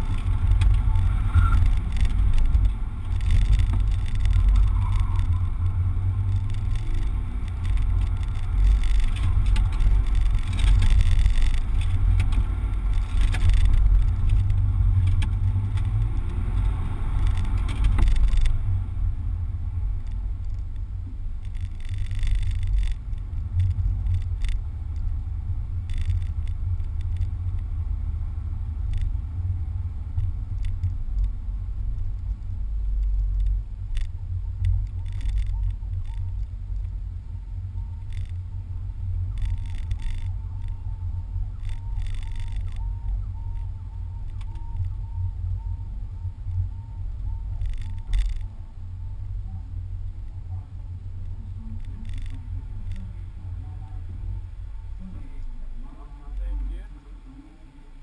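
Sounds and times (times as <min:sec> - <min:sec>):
car engine rumble in cabin: 0:00.0 - 0:58.0.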